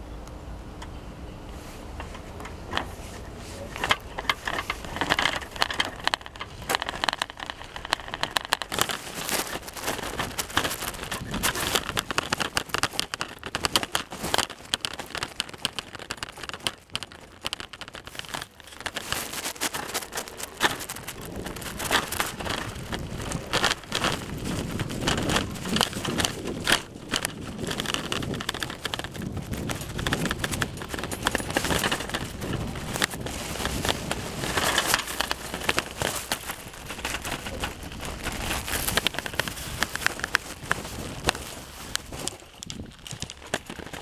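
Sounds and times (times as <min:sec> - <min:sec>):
footsteps on dry leaves: 0:02.9 - 0:17.4, 0:18.0 - 0:44.0.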